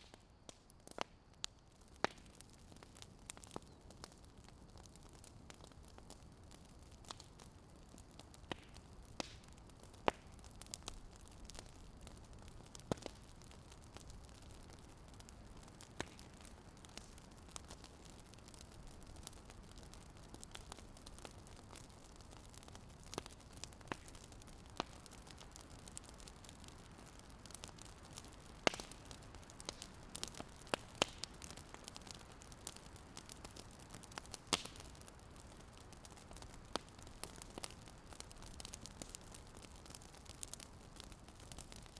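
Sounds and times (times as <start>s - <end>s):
low steady hiss: 0.0s - 41.9s
wood fire crackling and popping: 0.0s - 41.9s.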